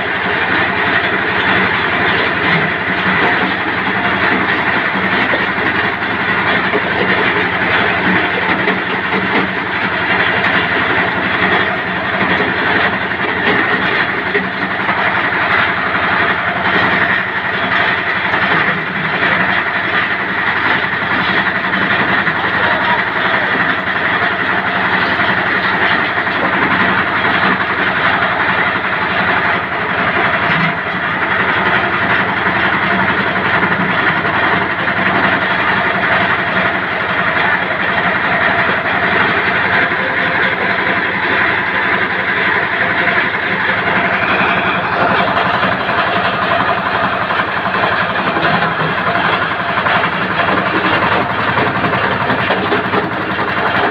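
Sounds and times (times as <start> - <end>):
brick crusher running: 0.0 - 53.9.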